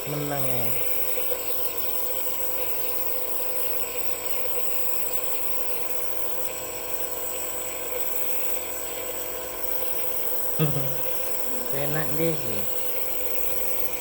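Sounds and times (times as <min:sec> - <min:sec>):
nebulizer humming and hissing: 0:00.0 - 0:14.0.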